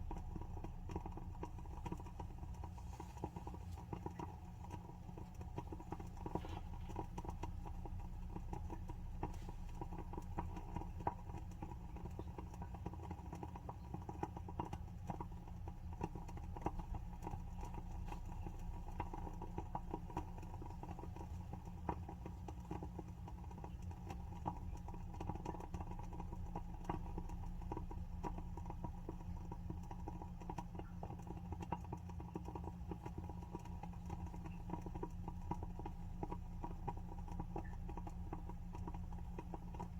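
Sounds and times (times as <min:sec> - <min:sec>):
candle wick crackling: 0:00.0 - 0:39.9.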